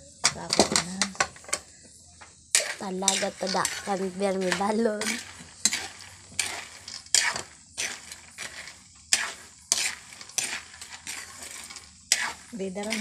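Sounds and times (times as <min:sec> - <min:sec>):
metal spoon scraping a pan: 0:02.5 - 0:13.0.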